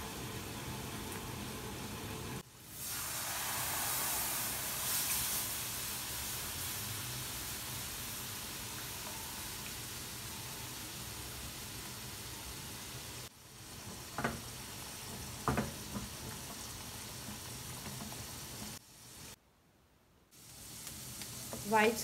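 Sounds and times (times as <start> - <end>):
milk sizzling in hot pan: 0.0 - 19.4, 20.3 - 22.0.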